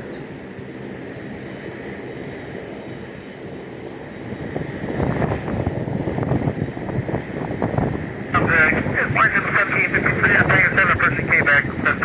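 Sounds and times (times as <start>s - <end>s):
airliner engine noise: 0.0s - 12.0s.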